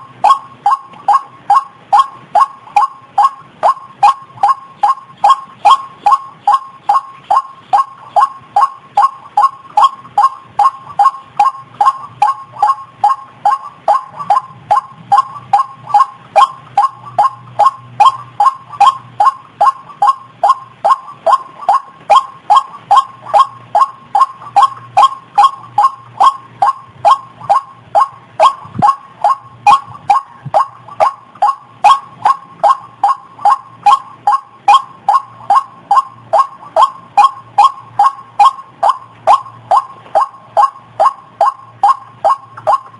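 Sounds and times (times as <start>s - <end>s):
bird call with downward-slurred notes: 0.0s - 42.9s.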